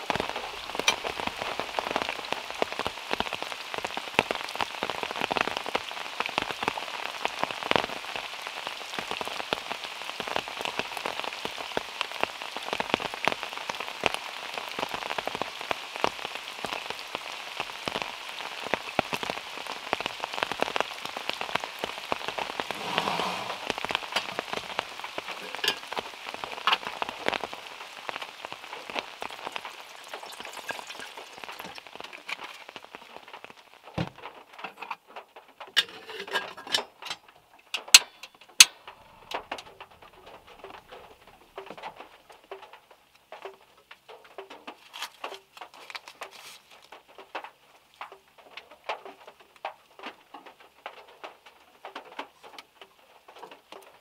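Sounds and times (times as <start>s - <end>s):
rain pattering on car: 0.0s - 54.0s.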